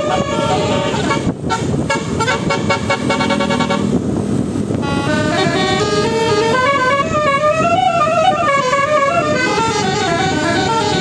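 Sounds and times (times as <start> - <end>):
bus horn playing a melody: 0.0 - 11.0.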